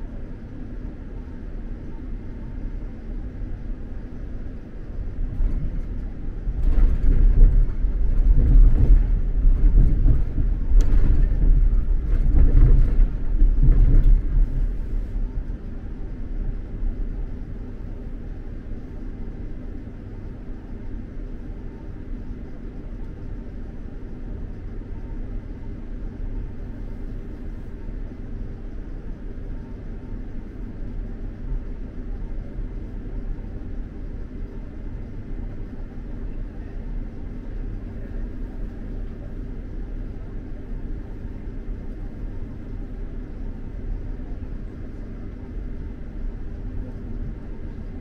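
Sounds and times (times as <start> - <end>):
train rumbling from inside cabin: 0.0 - 48.0.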